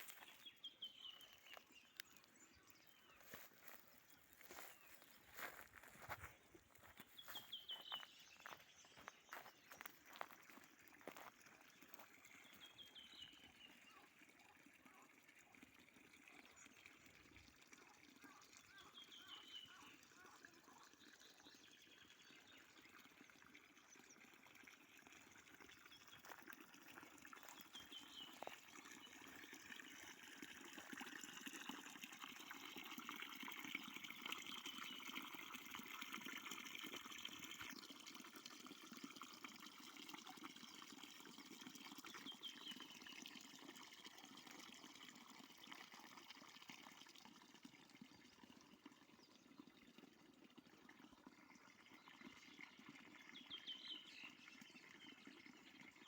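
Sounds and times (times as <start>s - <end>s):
river water trickling: 0.0s - 56.0s.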